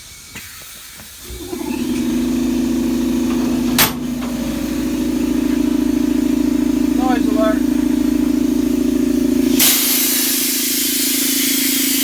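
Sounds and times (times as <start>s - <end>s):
lawn tractor engine droning: 1.2s - 12.0s.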